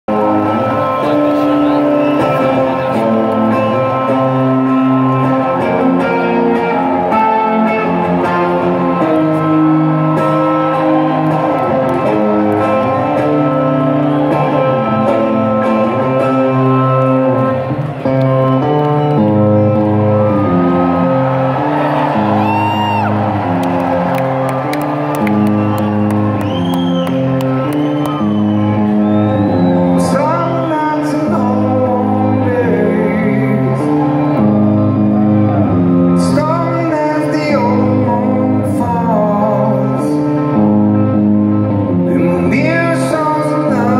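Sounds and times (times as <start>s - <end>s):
audience whistles and cheers: 0.1s - 37.8s
live band playing: 0.1s - 43.9s.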